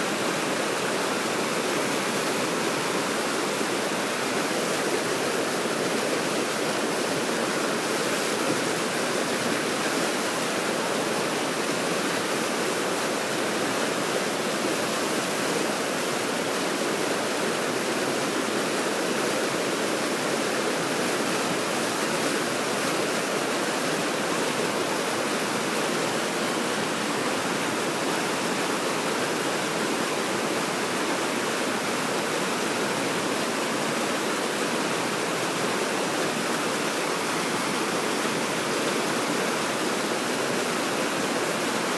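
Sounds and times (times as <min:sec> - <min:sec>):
water rushing over weir: 0:00.0 - 0:41.9.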